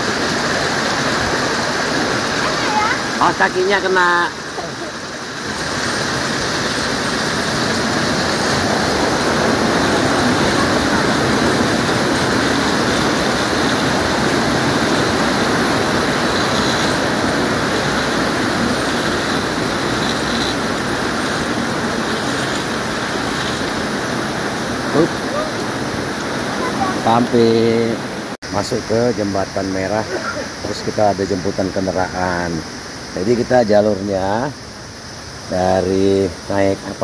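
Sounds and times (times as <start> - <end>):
stream rushing over boulders: 0.0 - 37.0.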